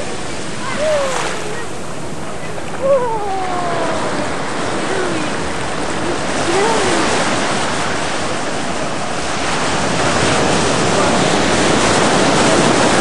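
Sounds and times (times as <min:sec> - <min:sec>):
surf breaking on sandy beach: 0:00.0 - 0:13.0.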